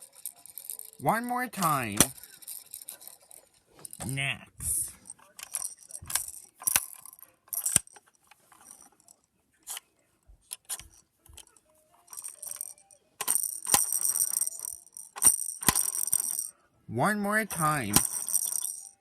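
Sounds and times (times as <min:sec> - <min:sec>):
toys clicking and knocking: 0:00.0 - 0:09.8, 0:10.4 - 0:16.5, 0:17.5 - 0:19.0.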